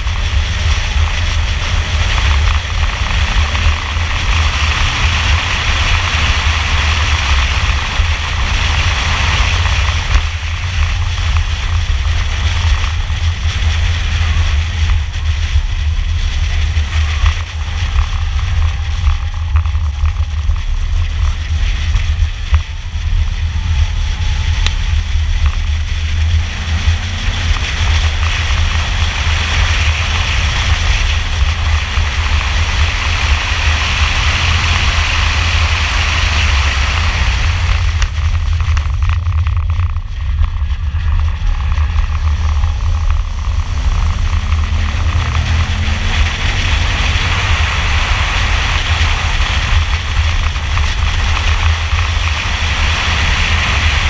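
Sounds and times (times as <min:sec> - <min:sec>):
car engine pulling hard: 0:00.0 - 0:54.0
wind and road rumble: 0:00.0 - 0:54.0.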